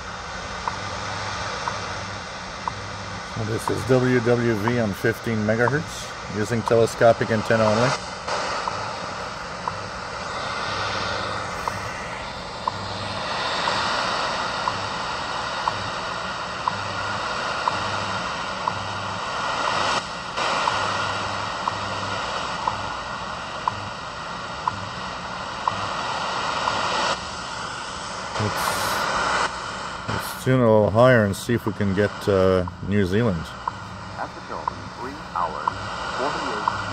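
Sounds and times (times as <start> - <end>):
low pulsing buzz: 0.0 - 36.9
shortwave static: 0.0 - 36.9
radio time signal ticks: 0.4 - 36.9.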